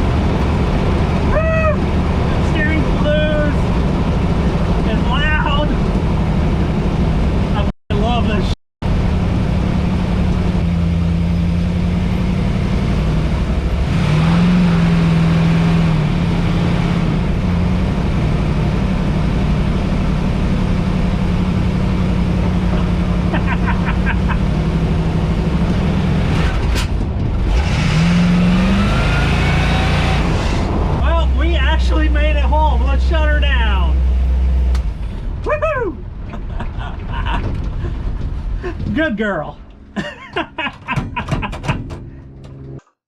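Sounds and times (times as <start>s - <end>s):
loud car engine driving: 0.0s - 42.9s.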